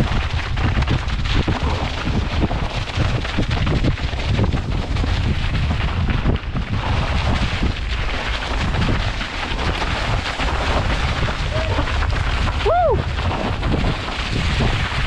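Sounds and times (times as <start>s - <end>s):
tyres rumbling over snow and stones: 0.0s - 15.0s.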